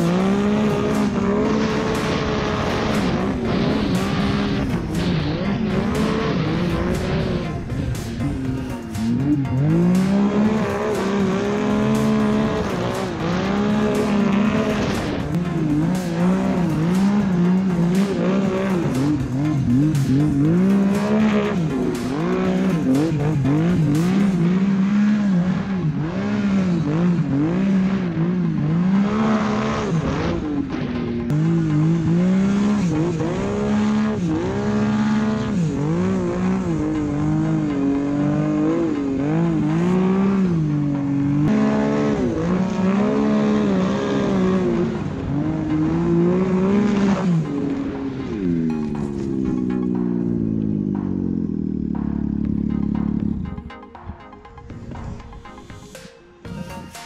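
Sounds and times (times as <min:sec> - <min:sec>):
snowmobile engine revving: 0:00.0 - 0:53.8.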